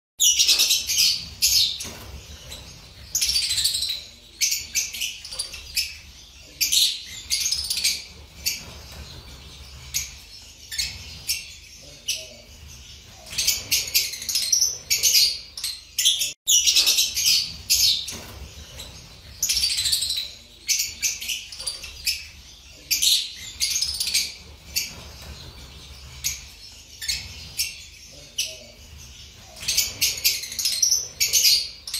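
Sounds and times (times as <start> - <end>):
lovebird chirping: 0.2 - 31.9.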